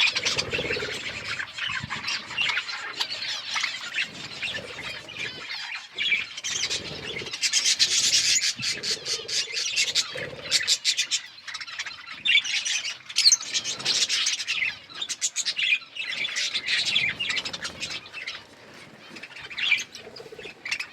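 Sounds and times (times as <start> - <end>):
budgies chirping and chattering: 0.0 - 20.9.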